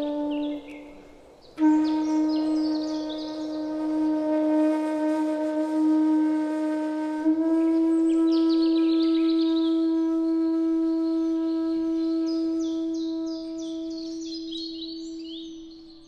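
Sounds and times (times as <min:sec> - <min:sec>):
breathy bamboo flute note: 0:00.0 - 0:16.0.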